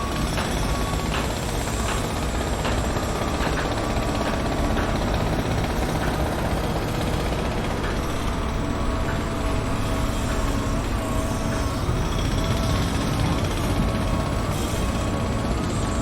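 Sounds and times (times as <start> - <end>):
heavy engines rumbling: 0.0 - 16.0.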